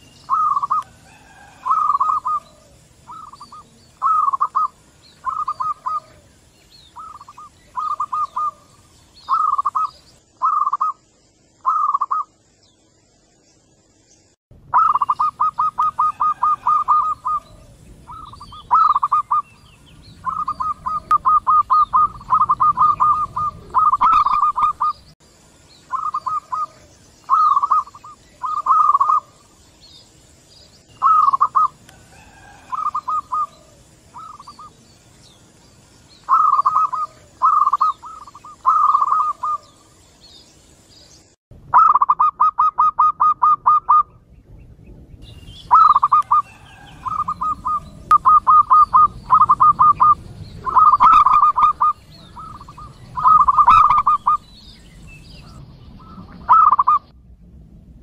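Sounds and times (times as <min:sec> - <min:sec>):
doves cooing: 0:00.0 - 0:11.0, 0:11.6 - 0:12.3, 0:14.7 - 0:25.2, 0:25.9 - 0:29.6, 0:31.0 - 0:35.1, 0:36.0 - 0:40.0, 0:41.7 - 0:44.2, 0:45.7 - 0:54.7, 0:55.4 - 0:57.1.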